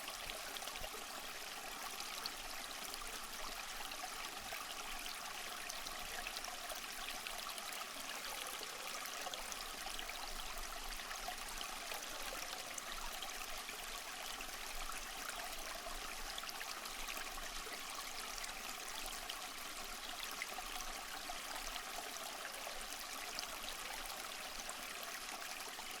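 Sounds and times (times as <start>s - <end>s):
stream of water trickling: 0.0s - 26.0s.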